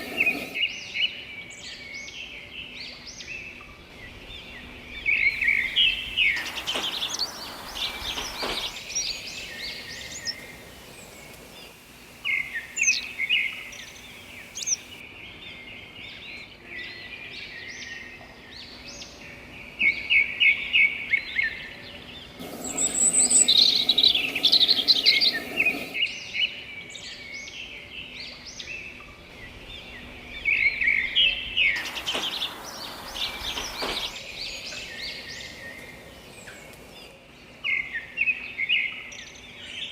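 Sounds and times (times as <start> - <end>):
songbirds chirping and trilling: 0.1 - 15.0, 21.7 - 39.9.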